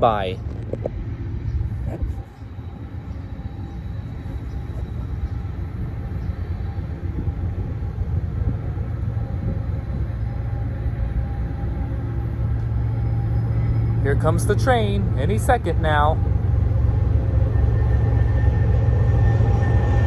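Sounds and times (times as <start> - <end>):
train engine rumble: 0.0 - 20.0.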